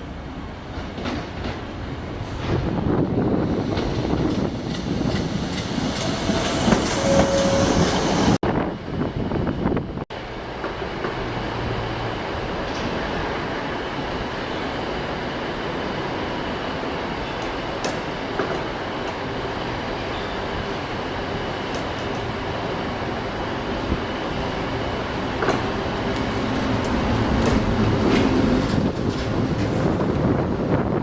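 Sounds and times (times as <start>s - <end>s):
train running: 0.0s - 31.0s.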